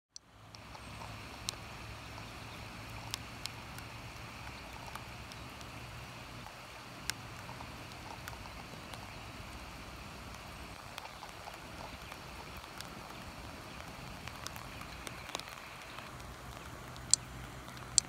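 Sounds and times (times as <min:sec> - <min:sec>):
rain pattering: 0:00.1 - 0:18.0
single raindrops tapping: 0:00.4 - 0:18.0.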